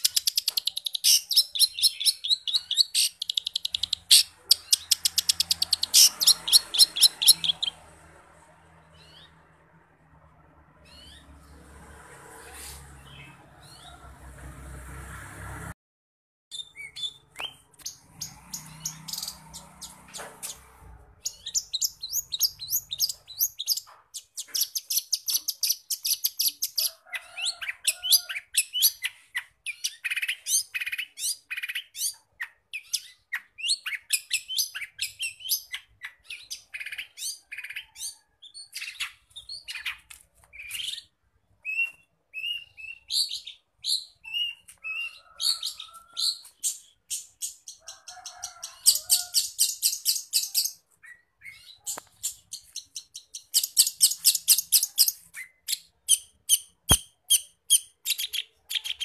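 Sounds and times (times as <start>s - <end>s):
bird singing fast chirping song: 0.0s - 7.8s, 16.5s - 26.8s, 28.4s - 47.9s, 48.8s - 59.0s.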